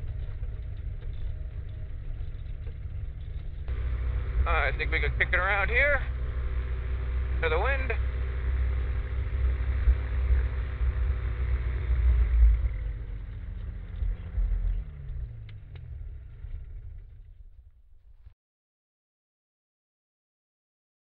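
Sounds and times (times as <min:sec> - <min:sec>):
two-stroke engine rumbling: 0:00.0 - 0:18.3.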